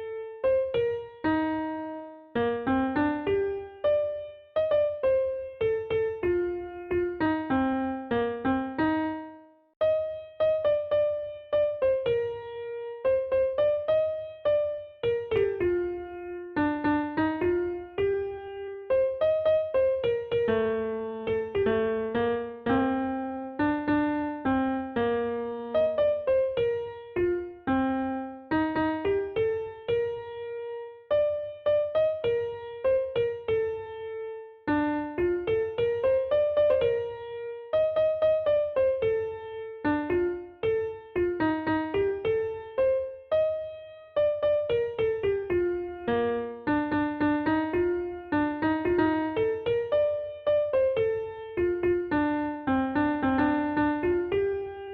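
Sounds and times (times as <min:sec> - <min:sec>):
piano melody: 0:00.0 - 0:54.9.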